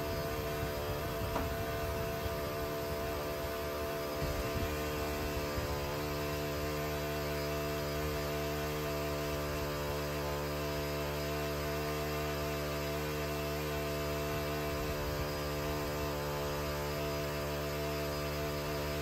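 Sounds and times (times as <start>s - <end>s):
small winch engine running: 0.0s - 19.0s.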